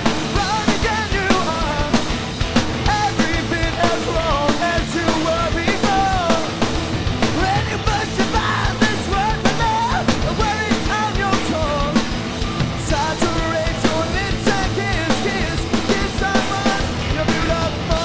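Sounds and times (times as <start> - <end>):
person singing: 0.0 - 2.0, 2.9 - 6.6, 7.3 - 12.0, 12.8 - 18.0
rock band playing: 0.0 - 18.0.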